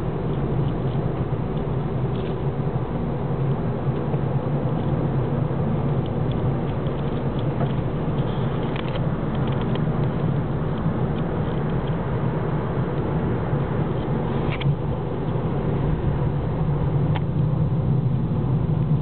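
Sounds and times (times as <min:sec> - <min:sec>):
car driving cabin hum: 0:00.0 - 0:19.0.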